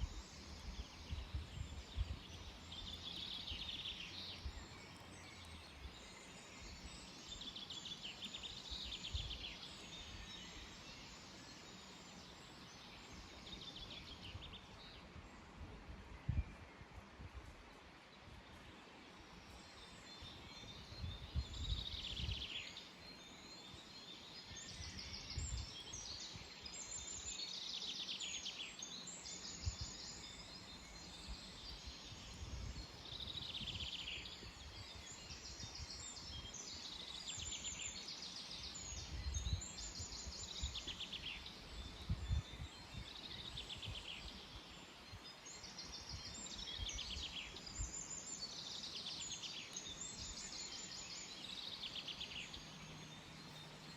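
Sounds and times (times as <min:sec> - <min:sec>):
songbirds singing trills: 0:00.0 - 0:53.9.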